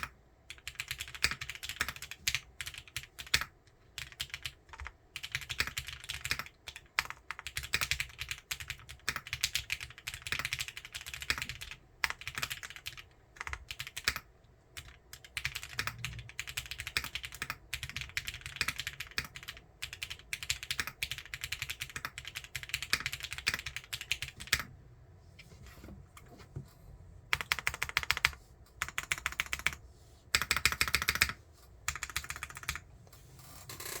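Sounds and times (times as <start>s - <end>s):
mechanical keyboard typing: 0.0s - 24.7s, 27.3s - 32.8s.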